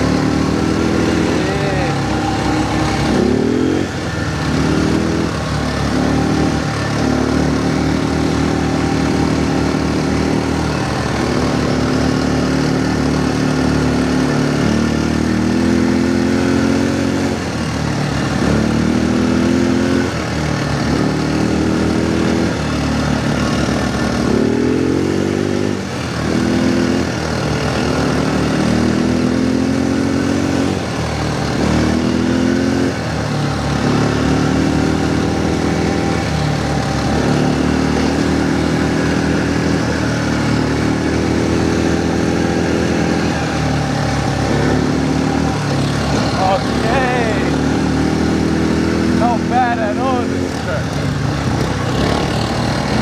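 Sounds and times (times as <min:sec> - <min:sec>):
quad bike engine revving: 0:00.0 - 0:53.0.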